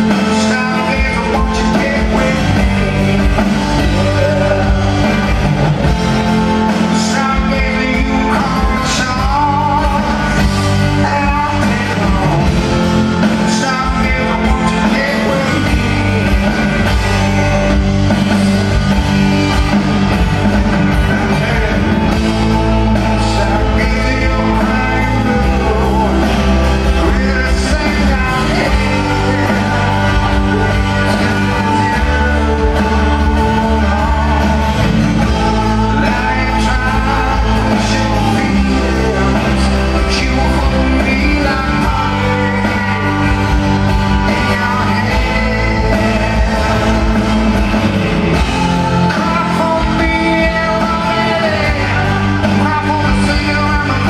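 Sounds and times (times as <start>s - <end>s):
lead vocal singing: 0.0s - 54.0s
live rock band: 0.0s - 54.0s.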